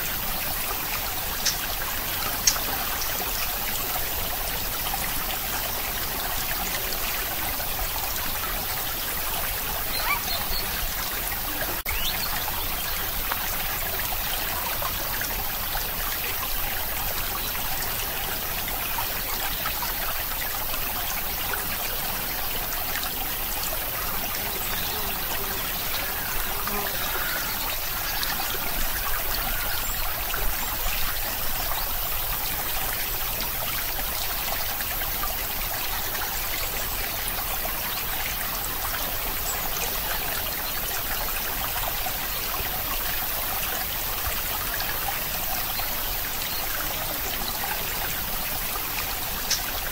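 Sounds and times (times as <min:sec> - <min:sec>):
flowing water: 0:00.0 - 0:49.9.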